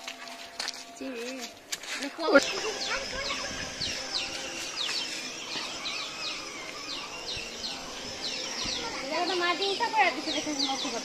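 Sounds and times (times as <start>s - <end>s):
small birds chirping: 2.2s - 11.0s.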